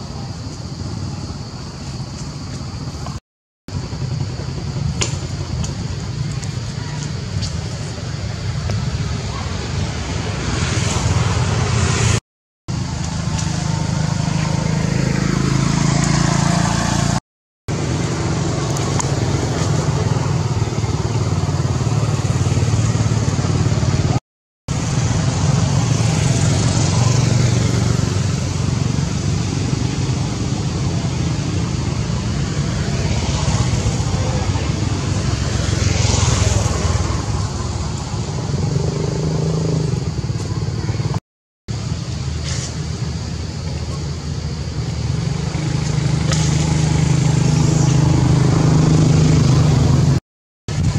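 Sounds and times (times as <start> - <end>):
low rumble of motor traffic: 0.0 - 50.9
motorbike engines: 0.0 - 50.9.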